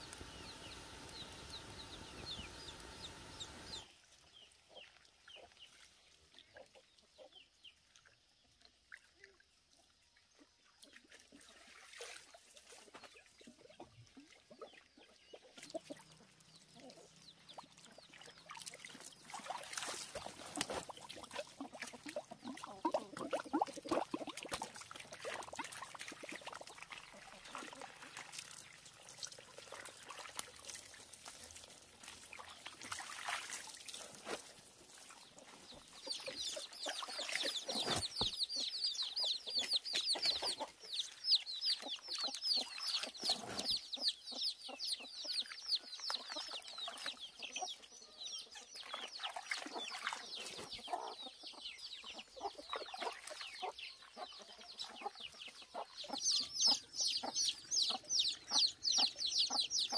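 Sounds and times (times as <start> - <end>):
chickens peeping and clucking: 0.0 - 5.6, 12.8 - 33.2, 33.9 - 59.9.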